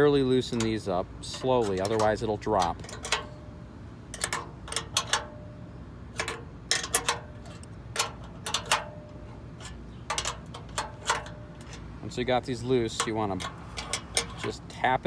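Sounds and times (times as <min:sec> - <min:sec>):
metal wrench clicking on bolts: 0:00.0 - 0:15.0.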